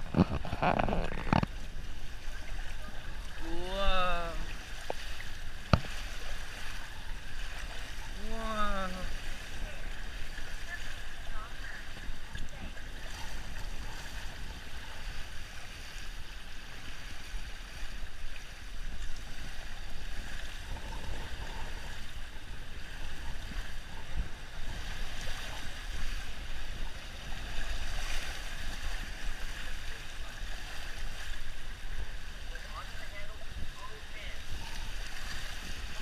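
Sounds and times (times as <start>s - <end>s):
water flowing and splashing: 0.0s - 36.0s.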